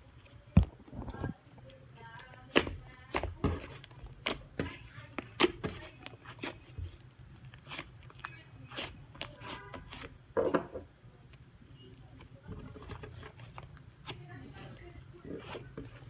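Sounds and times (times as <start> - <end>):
slime squelch: 1.1 - 10.1, 11.8 - 16.0.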